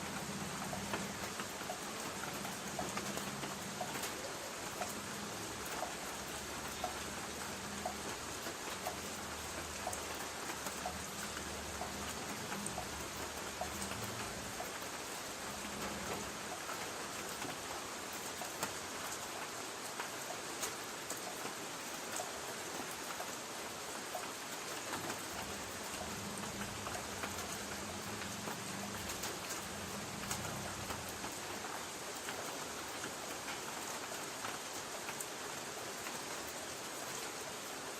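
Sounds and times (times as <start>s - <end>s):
rain on a tin roof: 0.0s - 37.9s.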